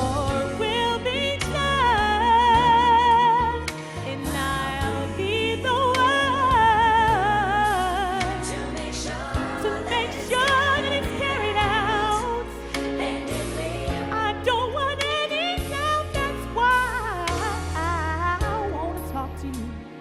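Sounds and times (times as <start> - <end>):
bass and drum beat: 0.0 - 19.7.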